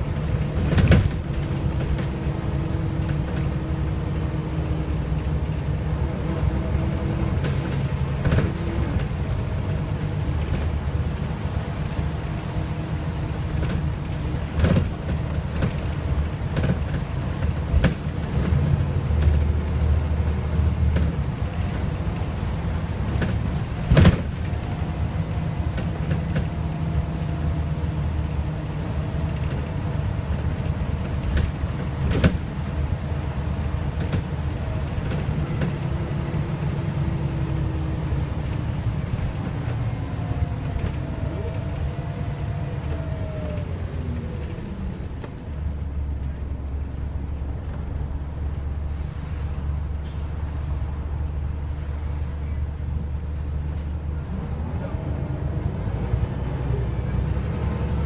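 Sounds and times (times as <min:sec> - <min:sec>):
bus body rattles: 0:00.0 - 0:58.0
bus diesel engine droning: 0:00.0 - 0:58.0.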